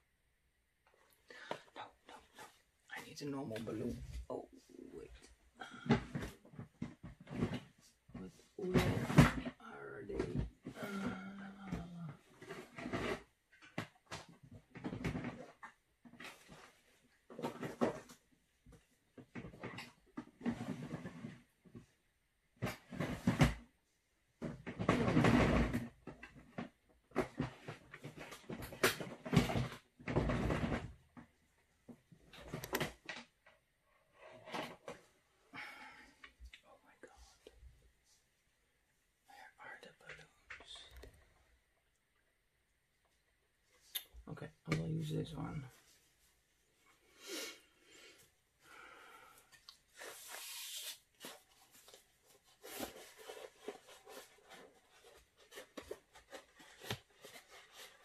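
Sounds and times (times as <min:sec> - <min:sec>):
rustling and knocking of objects: 0:00.8 - 0:38.5, 0:48.0 - 0:58.0.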